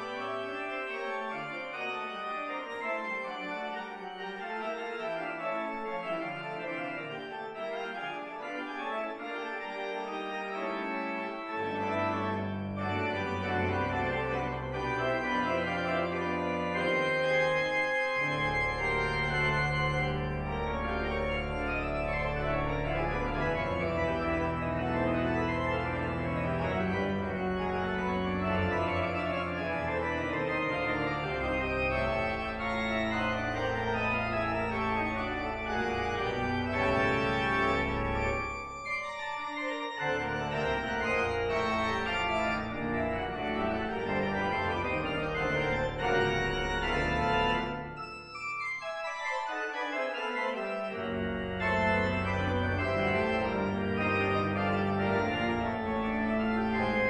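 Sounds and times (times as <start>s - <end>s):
church organ chords: 0.0s - 57.0s
organ pedal bass: 0.0s - 57.0s.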